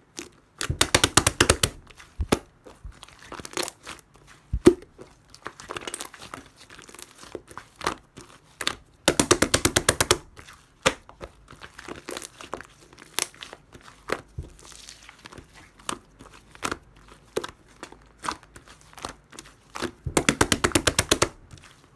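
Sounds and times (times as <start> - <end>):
slime squeezed with sticky crackles: 0.1 - 21.9.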